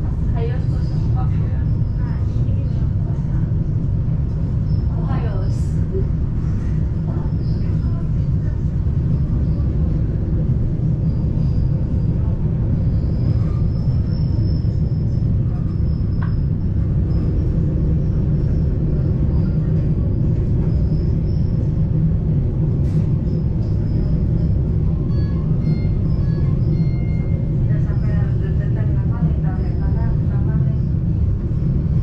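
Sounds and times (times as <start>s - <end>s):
rack railway train rumbling: 0.0s - 32.0s.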